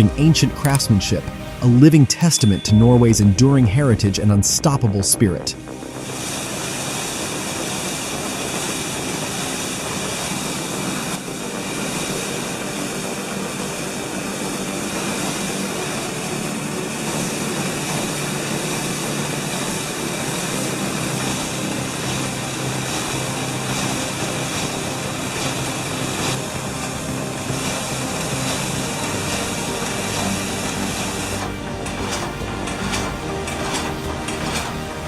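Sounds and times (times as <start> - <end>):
sawmill running: 0.0 - 35.0.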